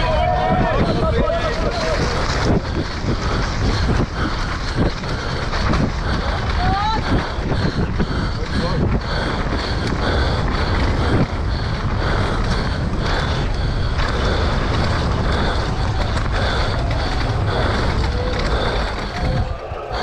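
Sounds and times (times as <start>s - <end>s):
bike rattling over rough ground: 0.0s - 20.0s
wind on microphone: 0.0s - 20.0s.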